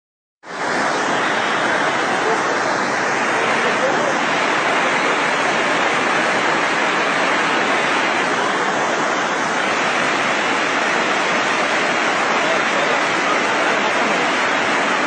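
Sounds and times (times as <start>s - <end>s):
waterfall rushing over rocks: 0.5s - 15.0s.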